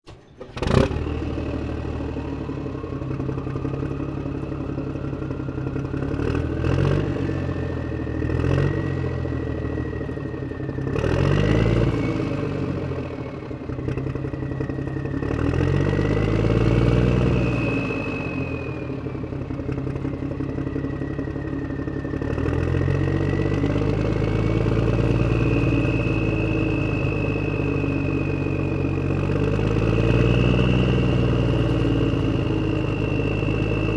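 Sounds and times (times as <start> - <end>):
vehicle engine starting and revving: 0.0 - 33.9.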